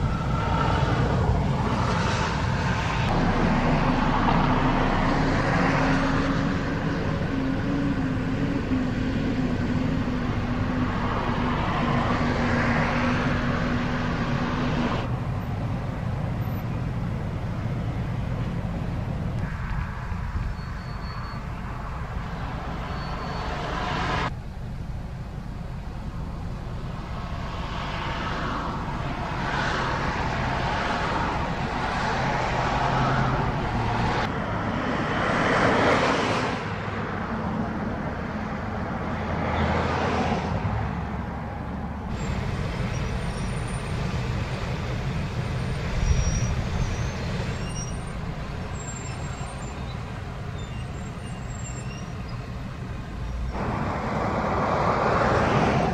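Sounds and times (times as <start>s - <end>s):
trucks driving past: 0.0s - 55.9s.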